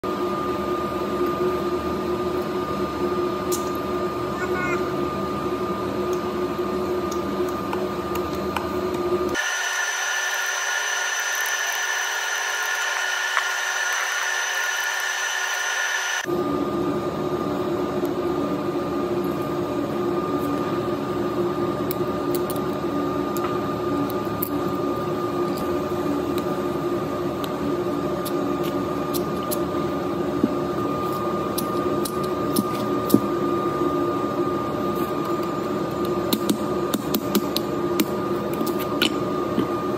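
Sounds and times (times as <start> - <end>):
higher-pitched hum: 0.1 - 35.3
motor drone with whine: 0.1 - 39.9.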